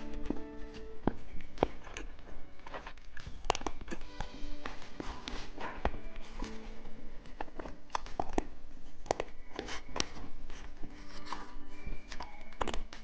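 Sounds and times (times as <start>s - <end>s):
crunchy candy being chewed: 0.1s - 6.6s, 7.2s - 13.0s.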